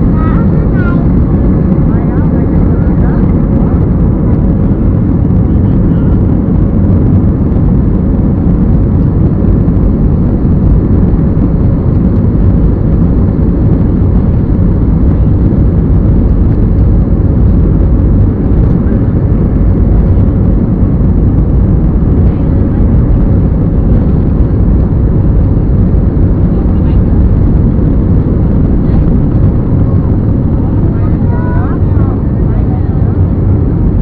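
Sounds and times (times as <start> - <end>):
jet engines and rushing air: 0.0 - 34.0.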